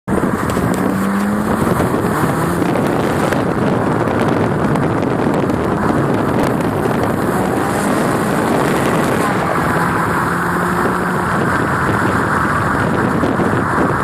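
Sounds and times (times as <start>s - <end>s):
car exhaust running loud: 0.1s - 14.0s.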